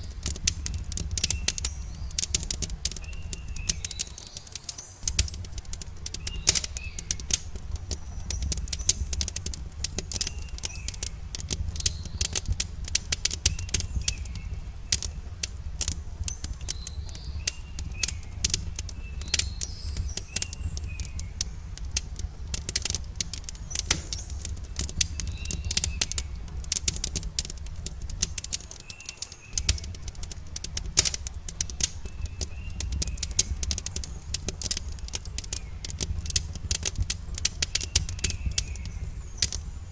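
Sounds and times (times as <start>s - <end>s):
campfire crackling: 0.0s - 39.9s
small birds chirping: 0.0s - 39.9s.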